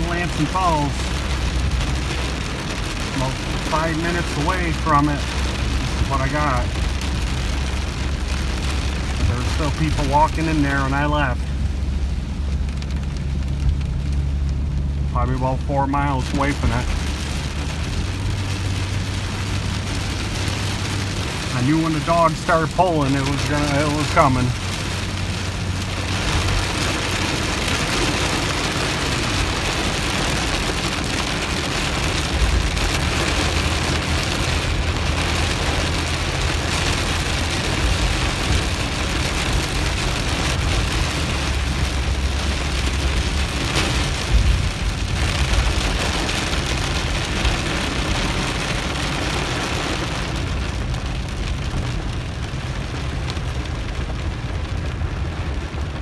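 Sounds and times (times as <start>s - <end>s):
heavy rain drumming on a roof: 0.0s - 56.0s
wet road noise: 0.0s - 56.0s.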